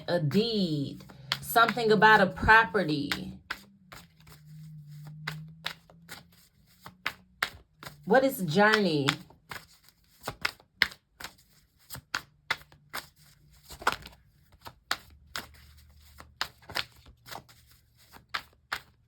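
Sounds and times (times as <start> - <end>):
cards being shuffled: 0.2 - 2.5, 3.1 - 19.0.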